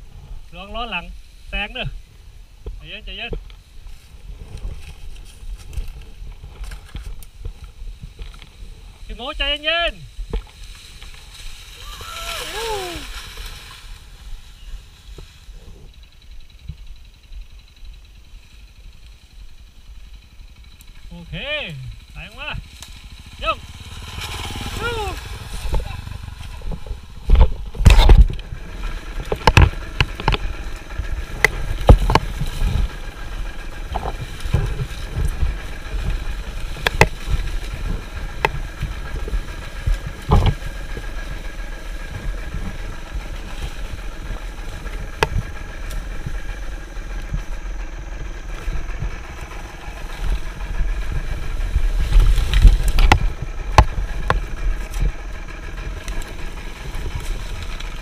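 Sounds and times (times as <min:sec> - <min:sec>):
dirt bike engine running: 0:00.0 - 0:58.0
low rumbling: 0:00.0 - 0:58.0
bike clattering over rough ground: 0:02.6 - 0:21.2, 0:22.1 - 0:58.0.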